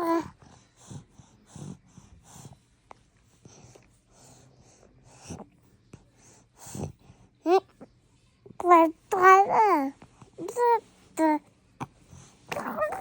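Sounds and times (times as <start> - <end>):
pet's phlegmy breathing: 0.0 - 7.5, 9.8 - 13.0.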